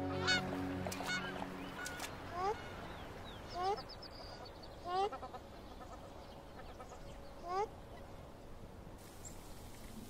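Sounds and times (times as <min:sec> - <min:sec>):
faint outdoor background: 0:00.0 - 0:10.0.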